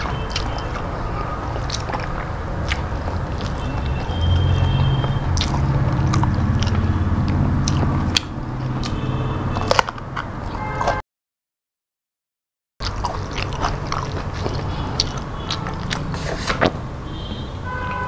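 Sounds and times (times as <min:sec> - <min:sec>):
chewing and wet mouth sounds: 0:00.0 - 0:11.0, 0:12.8 - 0:16.9.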